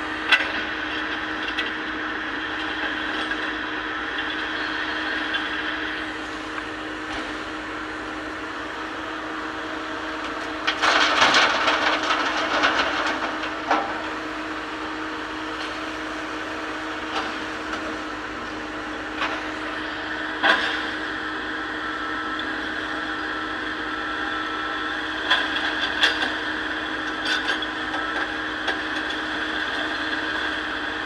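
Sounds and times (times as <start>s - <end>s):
excavator engine running: 0.0s - 31.0s.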